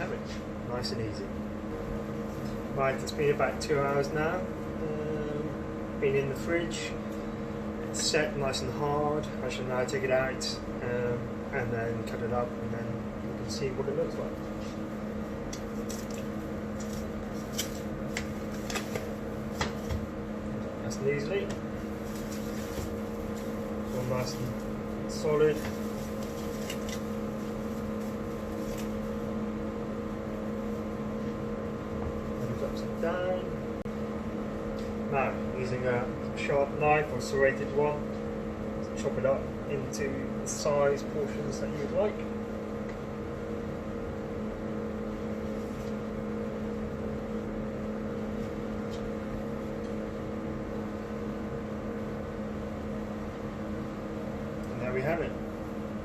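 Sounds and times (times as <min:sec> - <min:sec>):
appliance mechanical hum: 0:00.0 - 0:56.0.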